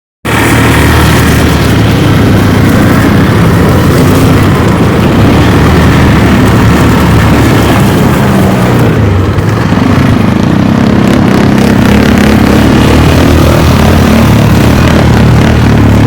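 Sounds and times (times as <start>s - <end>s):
atv engine running loudly: 0.2s - 16.0s.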